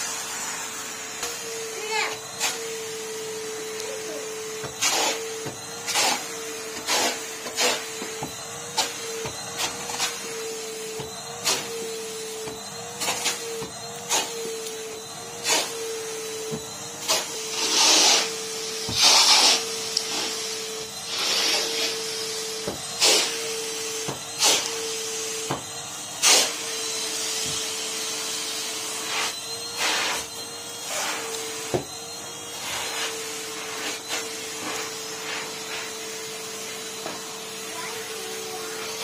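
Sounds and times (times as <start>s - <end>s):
vacuum cleaner motor whine: 0.0s - 39.0s.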